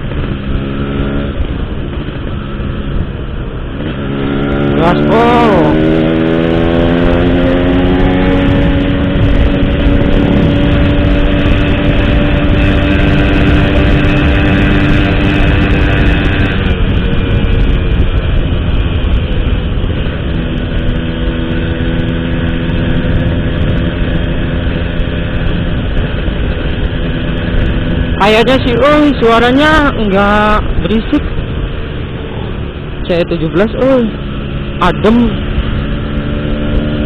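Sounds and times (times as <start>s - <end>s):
motorcycle engine cruising: 0.0s - 37.0s
wind rumble on microphone: 0.0s - 37.0s.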